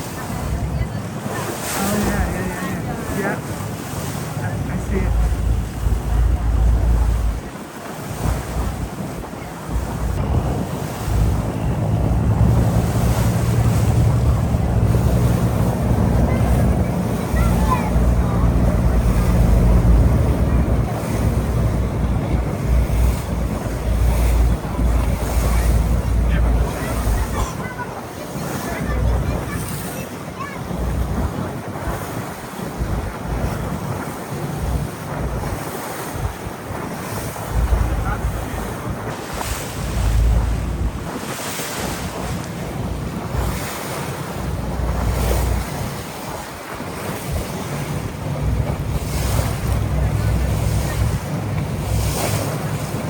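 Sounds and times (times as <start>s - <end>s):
boat engine drone: 0.0s - 53.0s
water rushing along hull: 0.0s - 53.0s
wind buffeting microphone: 0.0s - 53.0s.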